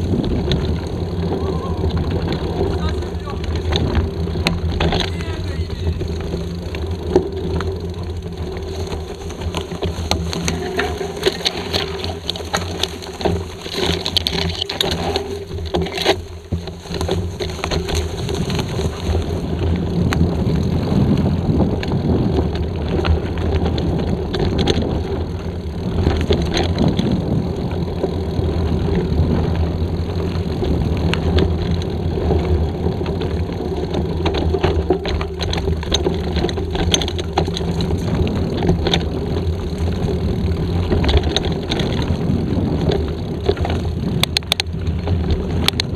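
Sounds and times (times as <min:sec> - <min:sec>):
bike frame and chain clattering: 0:00.0 - 0:45.9
bike tyres rumbling on dirt: 0:00.0 - 0:45.9.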